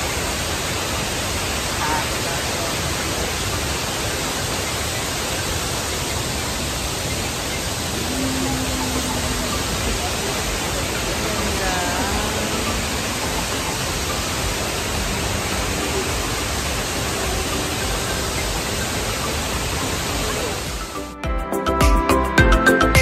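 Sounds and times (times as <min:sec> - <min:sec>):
waterfall roaring: 0:00.0 - 0:21.1.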